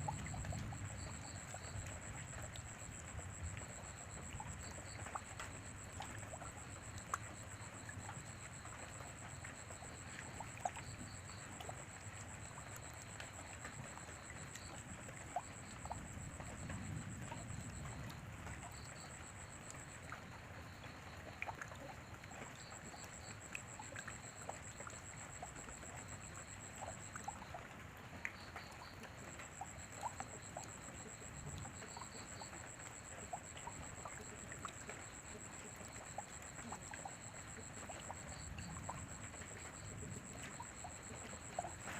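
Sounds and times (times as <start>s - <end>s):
rain falling: 0.0s - 41.9s
water trickling: 0.0s - 41.9s.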